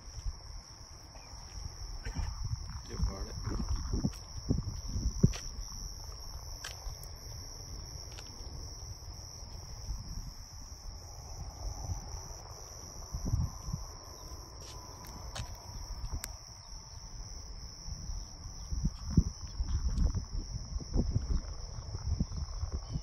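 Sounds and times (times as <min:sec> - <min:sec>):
crickets chirping: 0:00.0 - 0:23.0
wind rumble on microphone: 0:00.0 - 0:23.0.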